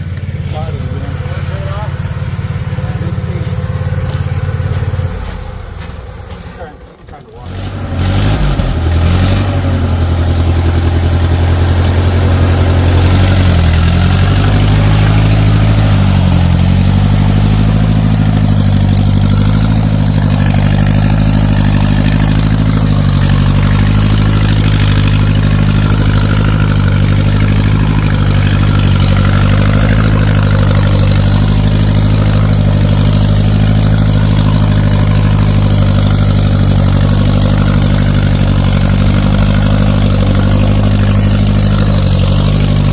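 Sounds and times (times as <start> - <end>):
engine starting and idling: 0.0 - 42.9.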